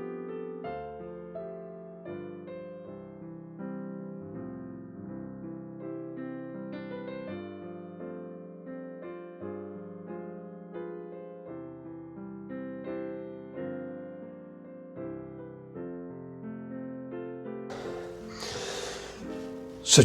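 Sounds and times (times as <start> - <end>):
gentle piano music: 0.0 - 17.1.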